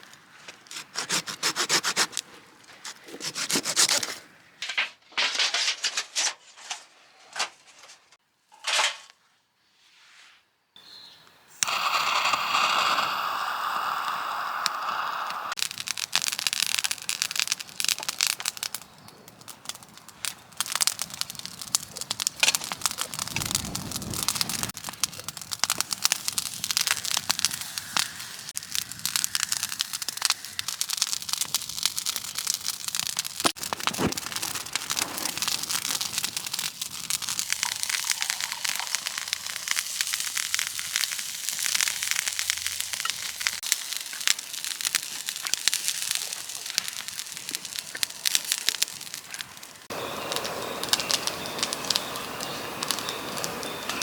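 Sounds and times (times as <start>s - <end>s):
campfire crackling: 0.0s - 4.6s, 11.2s - 54.0s.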